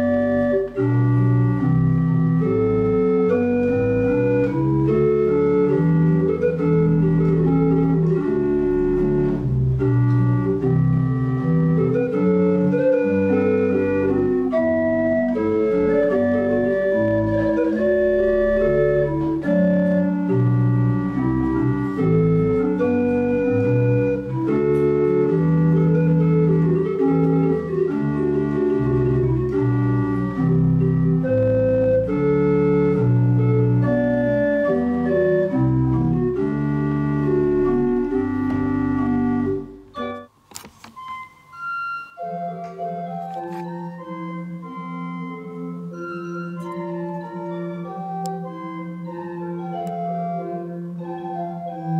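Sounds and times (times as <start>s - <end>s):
pipe organ playing chords: 0.0s - 51.9s.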